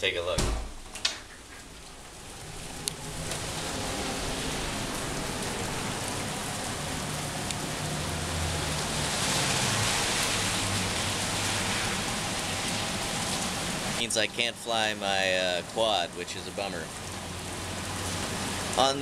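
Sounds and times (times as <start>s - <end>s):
steady rain falling: 0.1s - 19.0s.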